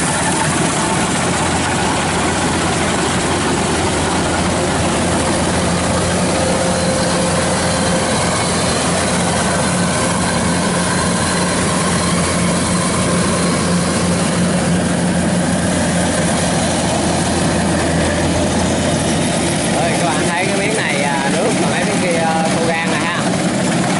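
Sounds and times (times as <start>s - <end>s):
combine harvester running: 0.0s - 23.9s.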